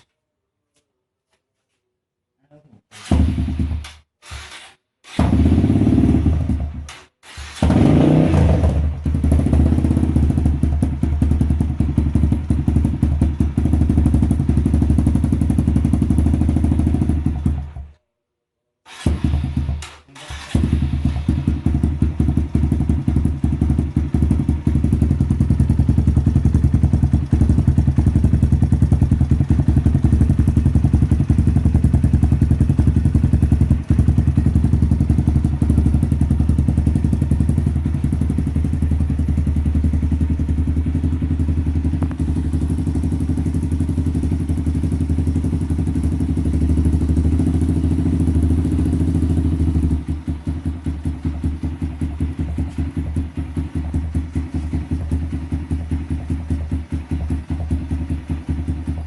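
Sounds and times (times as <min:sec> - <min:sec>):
motorcycle engine running: 0:03.0 - 0:04.1, 0:05.1 - 0:17.9, 0:18.9 - 0:59.0.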